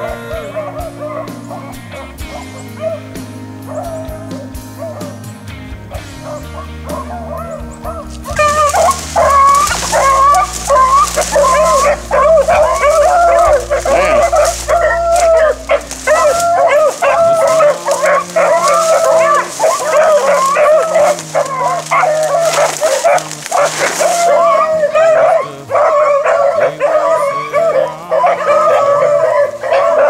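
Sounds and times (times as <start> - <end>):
pack of hounds baying: 0.0 - 30.0.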